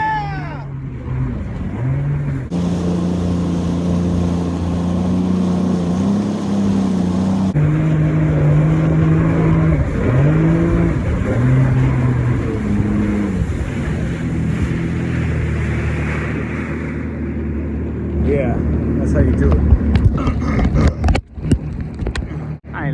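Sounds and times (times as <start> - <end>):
rushing water and wind: 0.7 - 22.2
jet ski engine running: 0.7 - 22.6.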